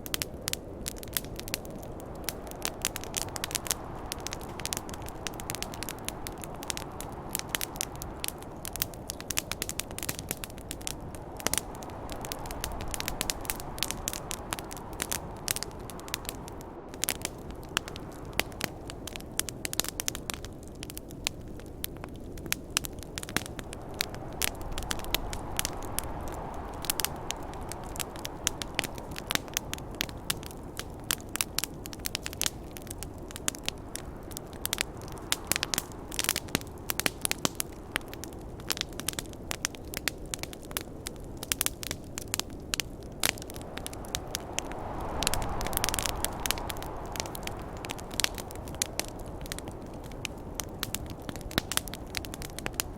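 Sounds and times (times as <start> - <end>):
campfire crackling: 0.0 - 52.9
sharp fire snaps: 0.0 - 52.9
snowstorm wind: 0.0 - 52.9.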